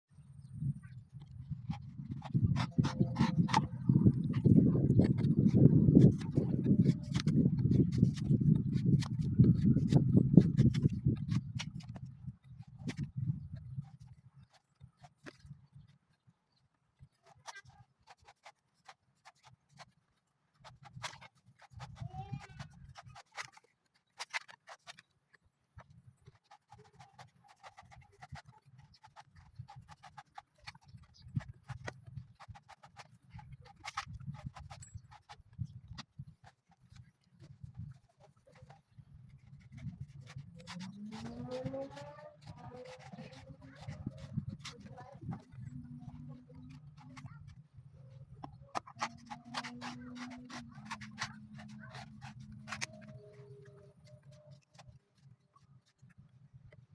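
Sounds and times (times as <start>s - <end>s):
blade knocking and scraping coconut husk: 1.2s - 16.2s, 17.0s - 56.9s.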